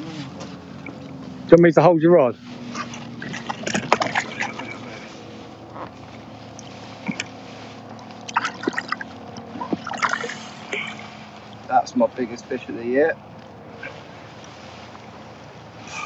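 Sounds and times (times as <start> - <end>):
steady low hum: 0.0 - 16.0
water splashing around boat: 0.0 - 16.0.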